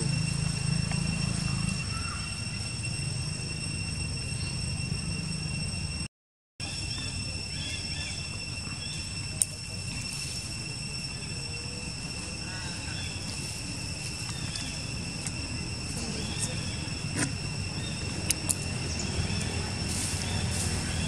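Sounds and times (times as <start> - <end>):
low rumble: 0.0 - 6.1, 8.1 - 21.0
high insect drone: 0.0 - 21.0.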